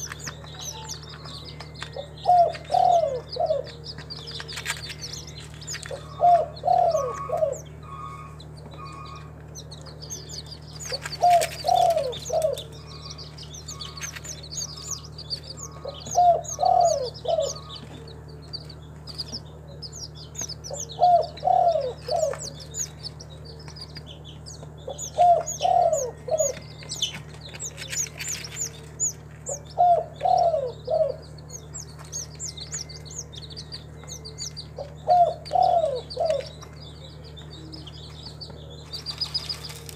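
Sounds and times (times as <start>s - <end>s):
small birds chirping: 0.0s - 39.9s
steady low hum: 0.0s - 39.9s
dove cooing: 0.9s - 9.4s, 10.2s - 18.4s, 20.6s - 24.0s, 24.8s - 39.9s.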